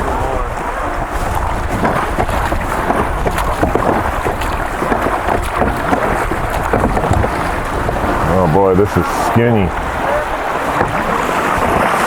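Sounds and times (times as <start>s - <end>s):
river water rushing and splashing: 0.0s - 12.0s
wind buffeting microphone: 0.0s - 12.0s.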